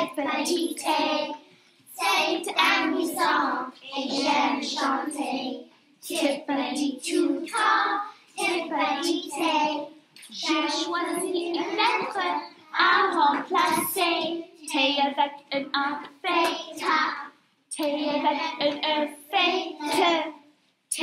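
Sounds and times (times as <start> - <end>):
young children singing: 0.0 - 21.0.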